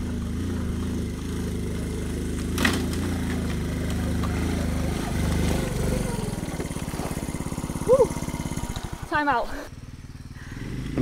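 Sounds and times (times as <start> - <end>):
motorcycle engine idling: 0.0 - 11.0
motorcycle puttering on stony trail: 0.0 - 11.0.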